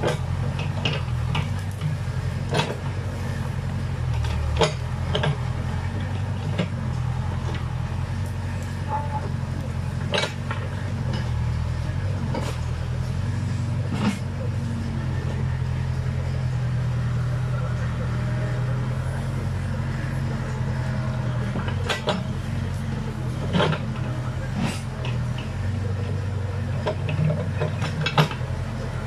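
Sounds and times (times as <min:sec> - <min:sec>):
diesel engine running under load: 0:00.0 - 0:29.0.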